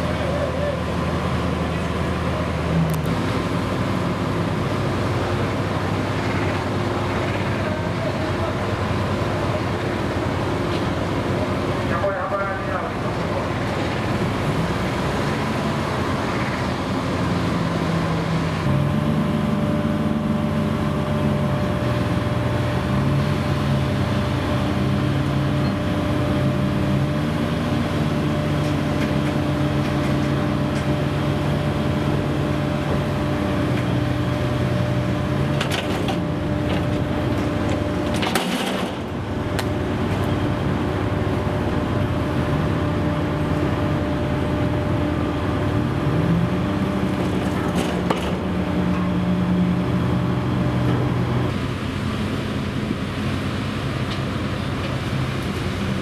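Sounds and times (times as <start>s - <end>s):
deck crane machinery humming: 0.0s - 56.0s.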